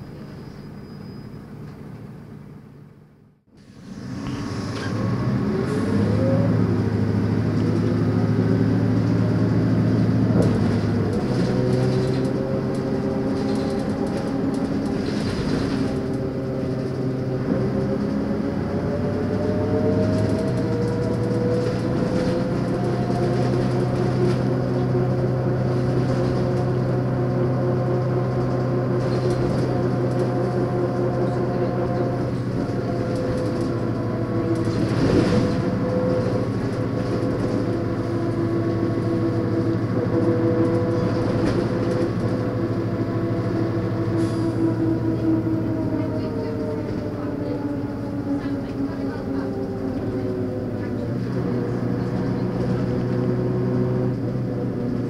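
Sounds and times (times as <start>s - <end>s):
bus diesel engine whining: 0.0s - 55.0s.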